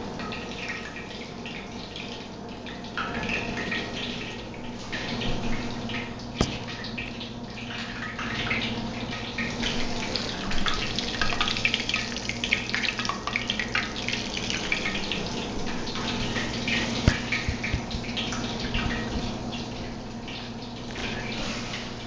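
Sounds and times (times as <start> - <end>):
low steady hum: 0.0 - 22.0
hot oil crackling and popping: 0.3 - 22.0.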